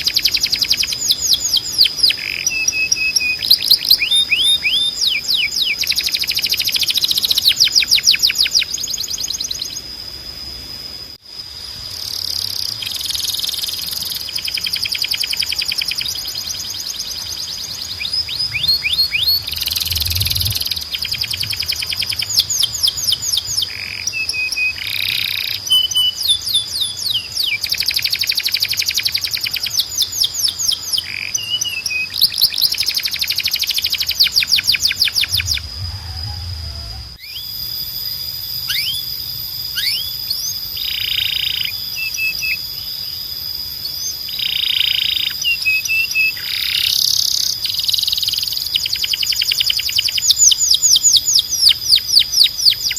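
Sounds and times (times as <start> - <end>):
canary singing: 0.0 - 9.9, 12.1 - 52.9.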